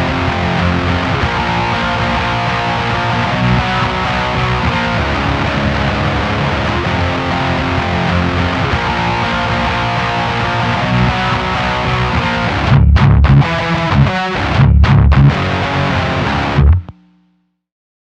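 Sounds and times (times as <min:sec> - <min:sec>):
low guitar chugs: 0:00.0 - 0:16.9
distorted electric guitar riff: 0:00.0 - 0:17.4.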